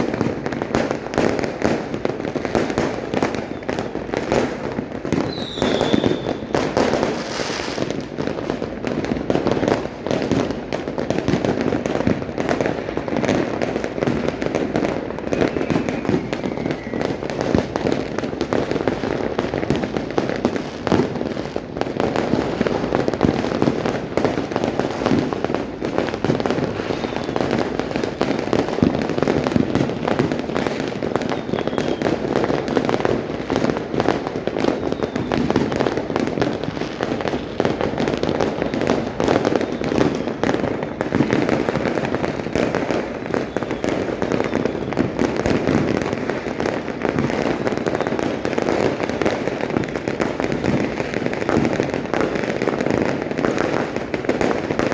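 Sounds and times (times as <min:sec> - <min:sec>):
firecrackers and fireworks bangs: 0:00.0 - 0:54.9.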